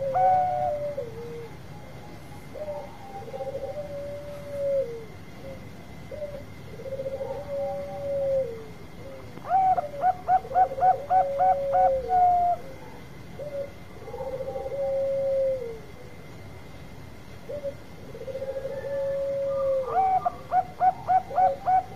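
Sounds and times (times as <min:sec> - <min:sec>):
dove cooing: 0:00.0 - 0:16.2, 0:17.4 - 0:21.9.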